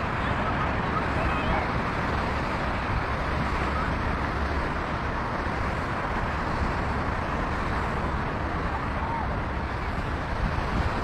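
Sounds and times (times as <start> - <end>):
ocean surf breaking: 0.0 - 11.0
wind noise on microphone: 0.0 - 11.0.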